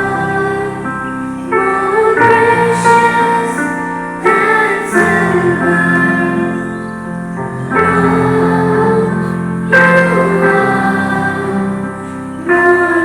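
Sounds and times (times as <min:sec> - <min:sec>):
choir singing: 0:00.0 - 0:13.0
keyboard accompaniment: 0:00.0 - 0:13.0.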